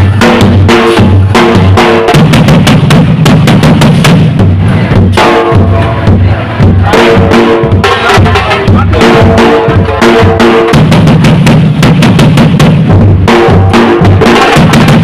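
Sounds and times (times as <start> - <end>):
dhol drumming: 0.0 - 15.0.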